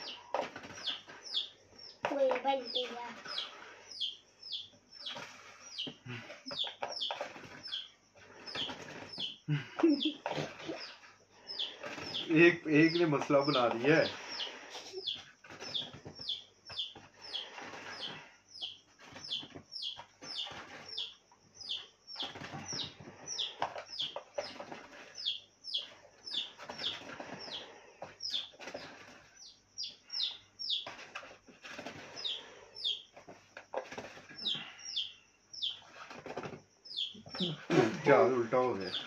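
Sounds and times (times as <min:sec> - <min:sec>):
small bird chirping: 0:00.0 - 0:39.0.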